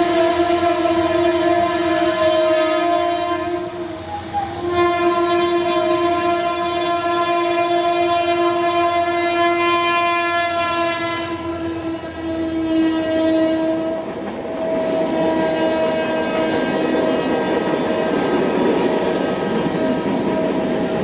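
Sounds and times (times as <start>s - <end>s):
train horn blast: 0.0s - 18.1s
passing train running: 0.0s - 21.0s.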